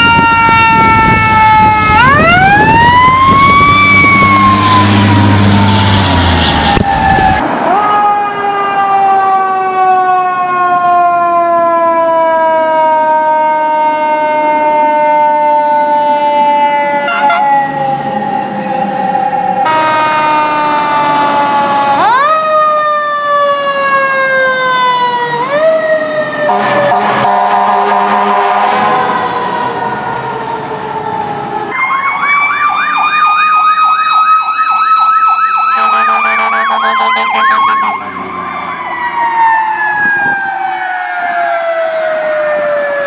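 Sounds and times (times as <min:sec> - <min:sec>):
fire truck siren wailing: 0:00.0 - 0:43.0.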